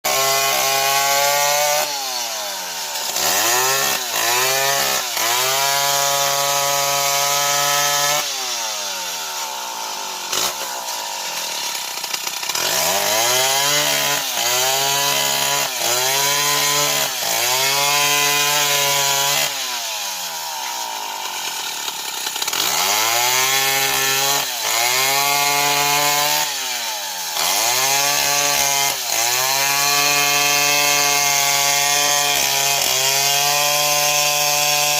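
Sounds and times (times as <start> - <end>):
chainsaw cutting into a tree: 0.0 - 34.9.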